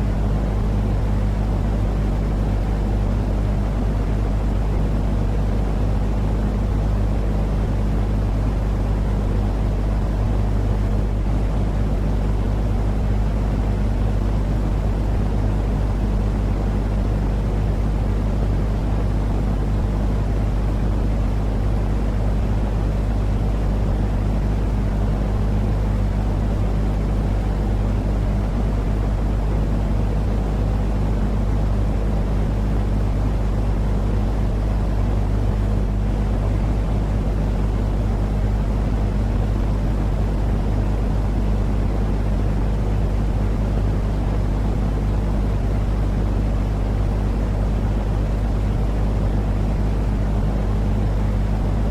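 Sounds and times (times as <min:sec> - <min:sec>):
low rumbling noise with hum: 0:00.0 - 0:51.9.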